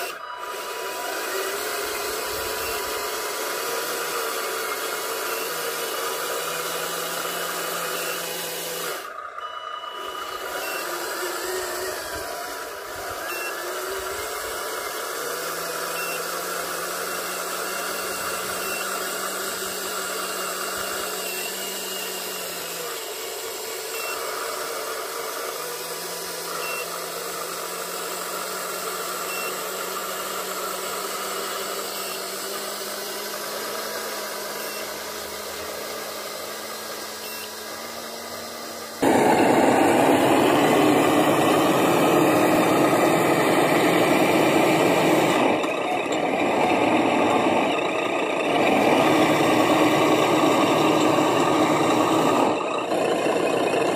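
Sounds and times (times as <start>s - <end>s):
small electric motors whining: 0.0s - 53.9s.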